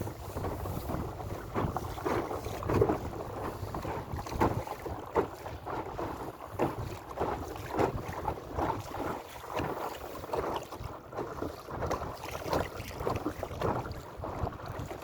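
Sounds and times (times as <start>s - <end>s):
water splashing against hull: 0.0s - 15.0s
wind rumble on microphone: 0.0s - 15.0s.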